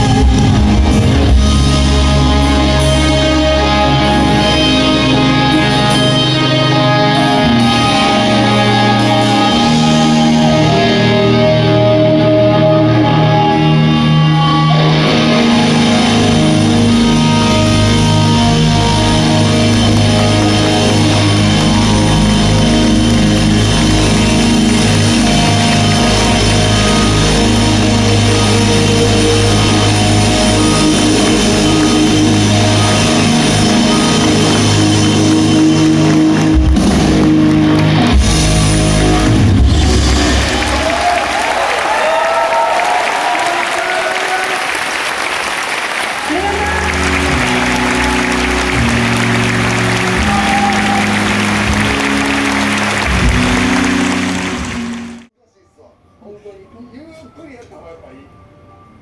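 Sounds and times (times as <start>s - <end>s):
instrumental rock band: 0.0s - 41.9s, 46.3s - 55.3s.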